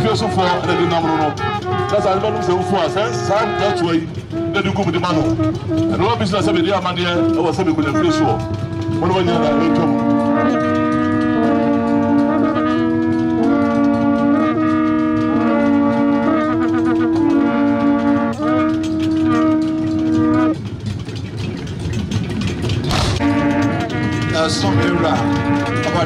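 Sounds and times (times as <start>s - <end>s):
horns playing held notes: 0.0s - 26.0s.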